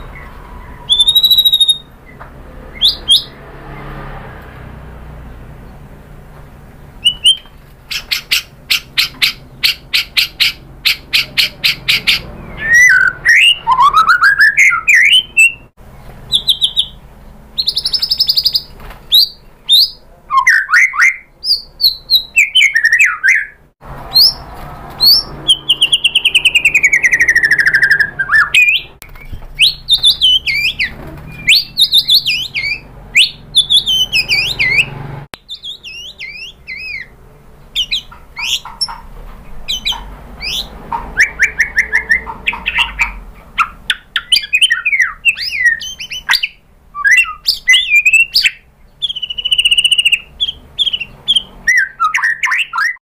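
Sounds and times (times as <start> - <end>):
songbird whistling and trilling: 0.0 - 3.4, 7.0 - 17.0, 17.6 - 24.4, 25.0 - 37.1, 37.8 - 39.0, 39.6 - 53.0.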